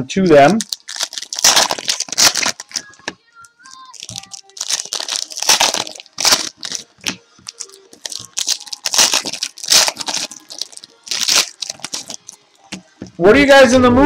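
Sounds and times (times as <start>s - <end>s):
card pack wrappers tearing: 0.5s - 12.4s.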